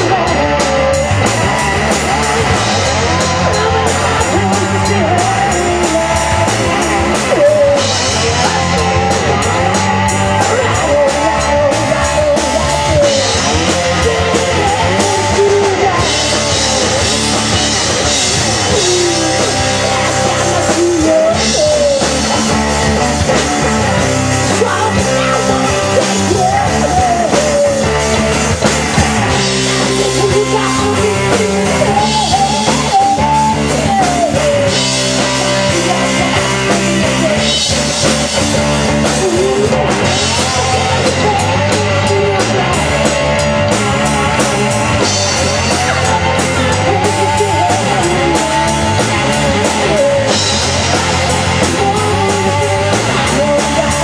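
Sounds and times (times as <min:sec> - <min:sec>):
drum kit: 0:00.0 - 0:54.0
electric guitar: 0:00.0 - 0:54.0
woman singing: 0:02.2 - 0:17.8, 0:18.5 - 0:22.3, 0:24.3 - 0:28.3, 0:29.0 - 0:38.1, 0:38.9 - 0:42.8, 0:43.9 - 0:54.0.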